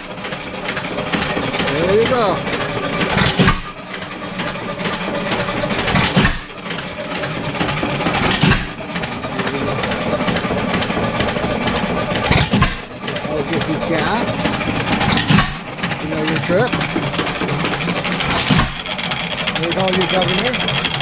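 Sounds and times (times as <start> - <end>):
engine firing strokes: 0.0 - 21.0.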